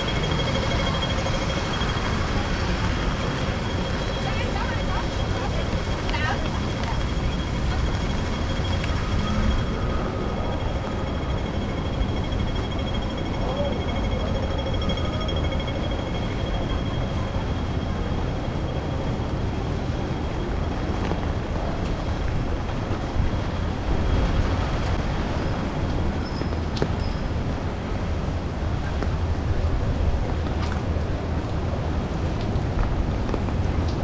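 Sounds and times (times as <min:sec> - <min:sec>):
street traffic noise: 0:00.0 - 0:34.0.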